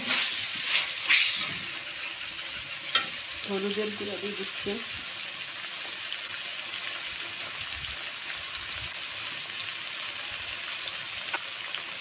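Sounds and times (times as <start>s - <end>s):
paste sizzling in oil: 0.0s - 12.0s.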